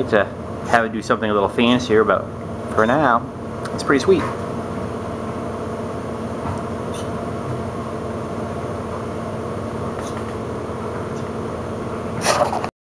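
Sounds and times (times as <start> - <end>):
steady mechanical hum: 0.0 - 12.7.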